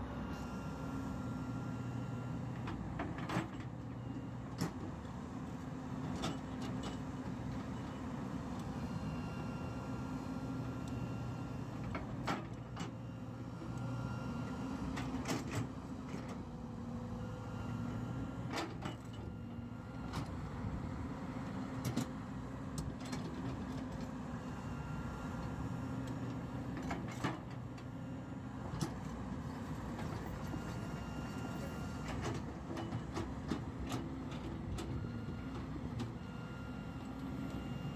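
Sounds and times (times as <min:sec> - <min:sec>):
excavator engine and hydraulics: 0:00.0 - 0:37.9.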